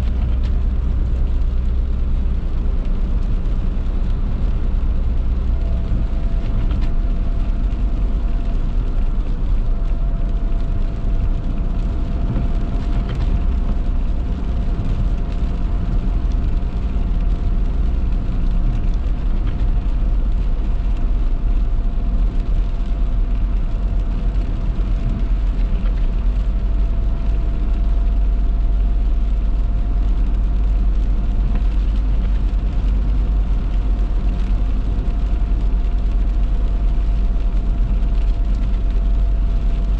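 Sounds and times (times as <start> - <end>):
car tyres on wet road: 0.0 - 39.9.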